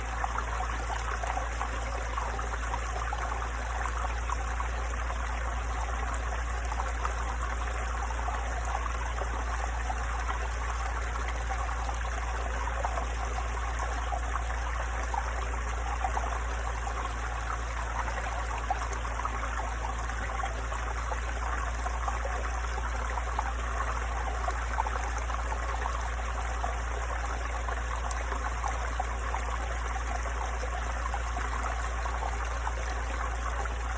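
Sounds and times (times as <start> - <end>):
stream babbling over stones: 0.0 - 33.9.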